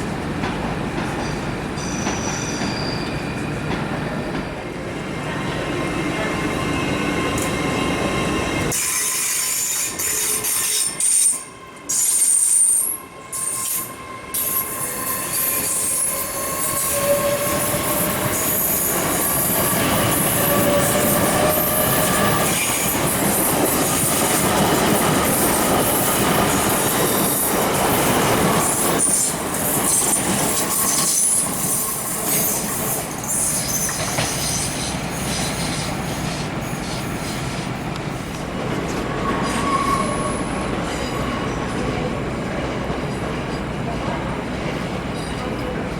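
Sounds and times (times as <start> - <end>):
train rolling noise: 0.0 - 45.9
train wheels squealing: 1.1 - 4.6, 5.5 - 37.8, 38.9 - 41.8.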